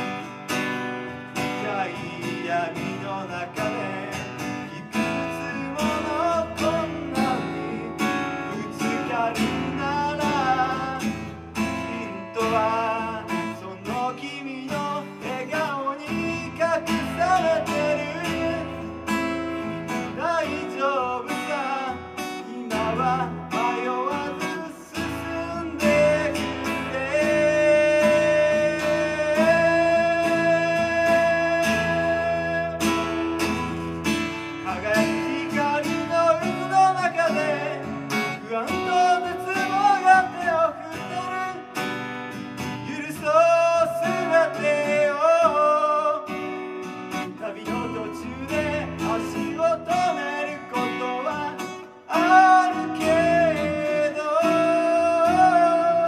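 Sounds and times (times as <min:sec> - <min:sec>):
man singing: 0:00.0 - 0:56.0
strummed acoustic guitar: 0:00.0 - 0:56.0.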